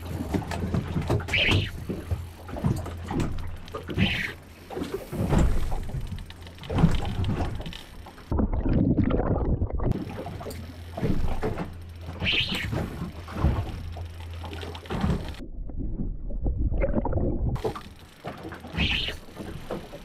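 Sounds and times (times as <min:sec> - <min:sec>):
water sloshing against boat hull: 0:00.0 - 0:20.0.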